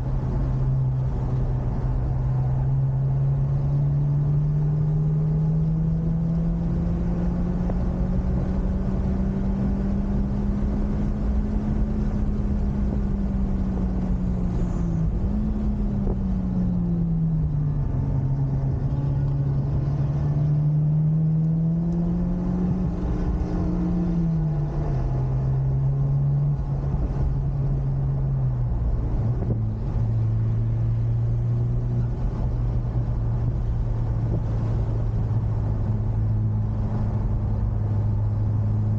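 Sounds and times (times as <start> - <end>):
car engine accelerating: 0.0 - 38.9
road and tyre rumble: 0.0 - 38.9.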